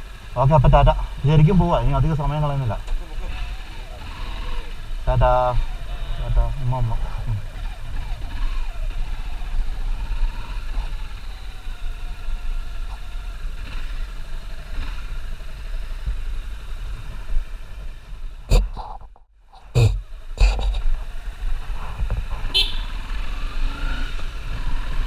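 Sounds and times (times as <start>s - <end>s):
motorcycle engine rumble: 0.0s - 25.0s
road noise: 0.0s - 25.0s.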